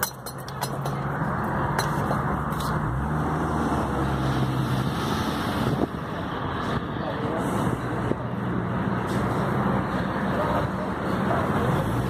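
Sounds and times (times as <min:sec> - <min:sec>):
road noise inside car: 0:00.0 - 0:12.0.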